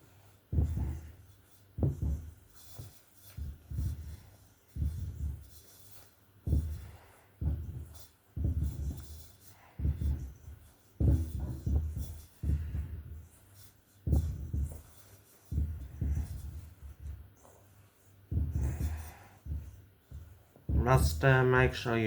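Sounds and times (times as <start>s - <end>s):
fingers rubbing butter into flour: 0.0s - 21.7s.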